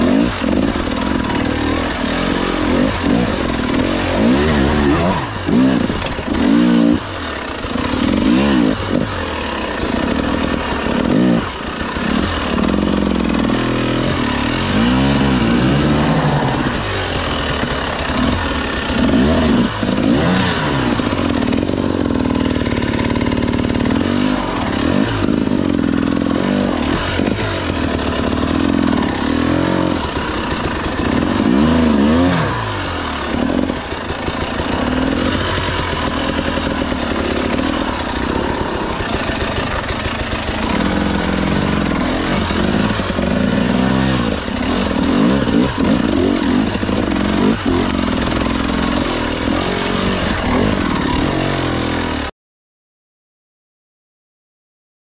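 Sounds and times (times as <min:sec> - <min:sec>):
dirt bike engine revving: 0:00.0 - 0:52.3.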